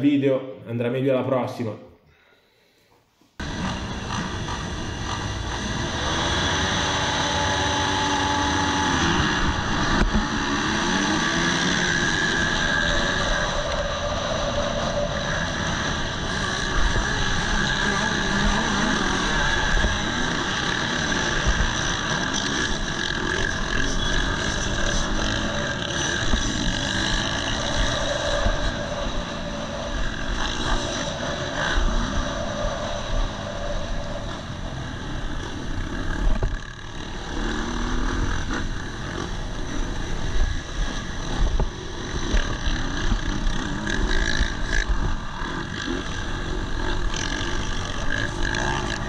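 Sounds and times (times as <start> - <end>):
motocross bikes revving: 3.4 - 49.0.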